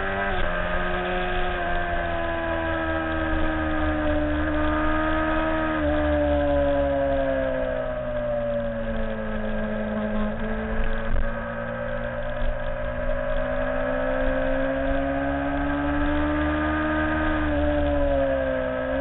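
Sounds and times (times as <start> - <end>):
motorcycle engine at high revs: 0.0 - 19.0
wind rumble on microphone: 0.0 - 19.0.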